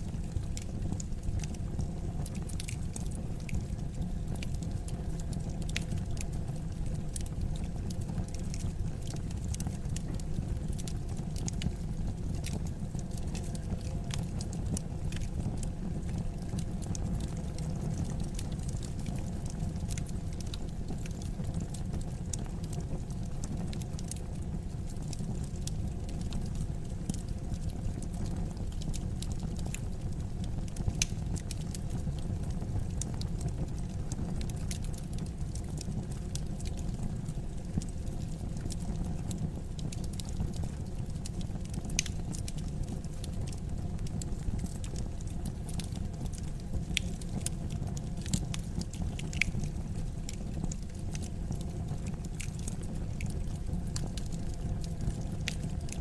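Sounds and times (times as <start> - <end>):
fire popping and crackling: 0.0 - 56.0.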